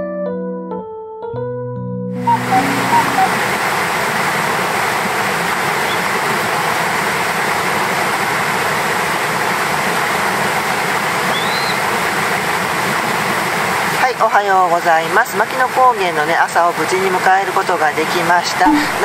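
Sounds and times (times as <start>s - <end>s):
steady rain: 2.2s - 19.0s.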